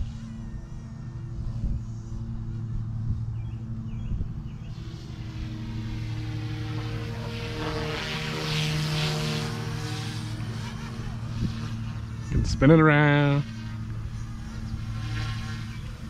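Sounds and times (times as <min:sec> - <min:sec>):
rc helicopter rotor hum: 0:00.0 - 0:16.0.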